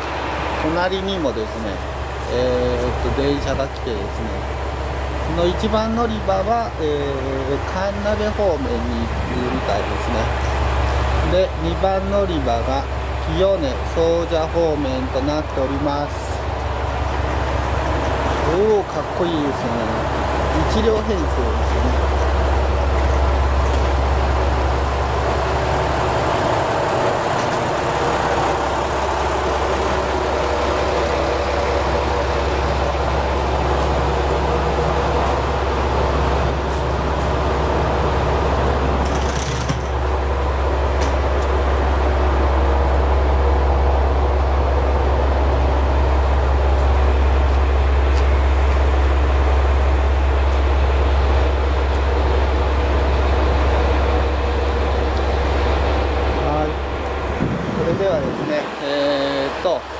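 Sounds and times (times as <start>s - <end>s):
diesel railcar engine idling: 0.0s - 59.9s.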